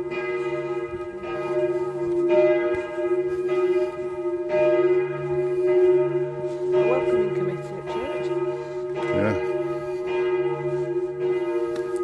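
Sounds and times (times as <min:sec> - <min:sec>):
church bell ringing: 0:00.0 - 0:12.0.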